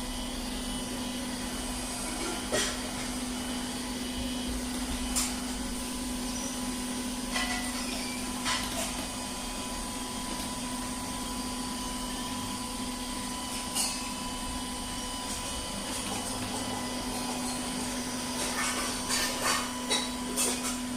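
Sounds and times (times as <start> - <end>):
robot vacuum cleaner motor hum: 0.0 - 7.2, 7.8 - 20.3.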